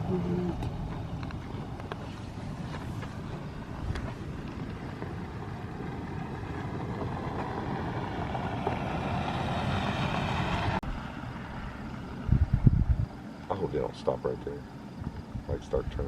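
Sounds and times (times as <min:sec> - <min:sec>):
car driving: 0:00.0 - 0:16.0.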